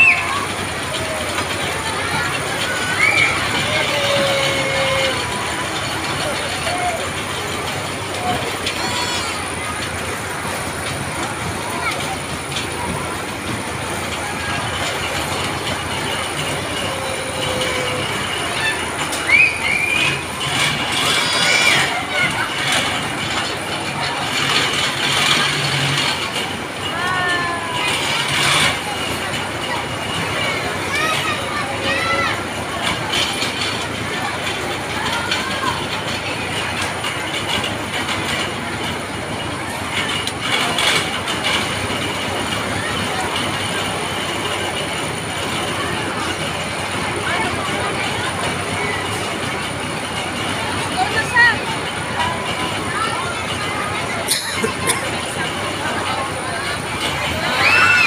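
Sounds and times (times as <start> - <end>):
fairground ride rumbling and rattling: 0.0 - 58.0.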